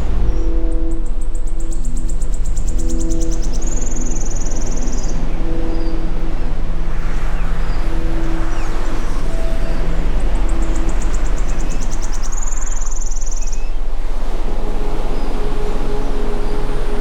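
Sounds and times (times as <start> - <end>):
high steady whistle: 0.0 - 17.0
low engine-like rumble: 0.0 - 17.0
soft sustained musical tones: 0.0 - 17.0.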